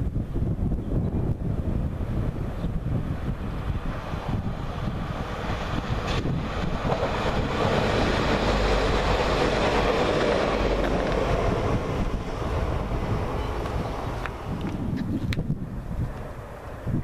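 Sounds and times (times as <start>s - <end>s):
train wheels rushing on rails: 1.4s - 15.5s.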